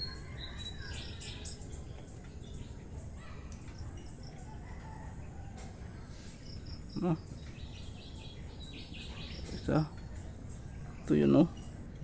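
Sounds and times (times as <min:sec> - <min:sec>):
birds chirping: 0:00.0 - 0:12.0
insects: 0:00.0 - 0:12.0.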